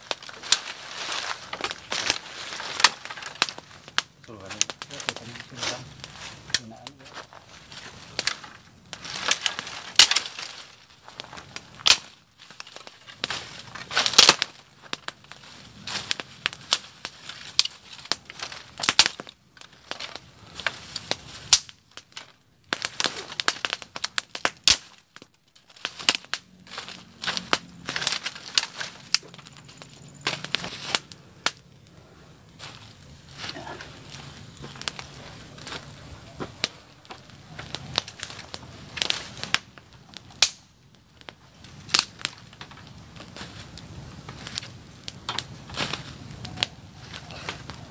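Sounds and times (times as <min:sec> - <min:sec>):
dry grass and sticks crackling: 0:00.0 - 0:47.9.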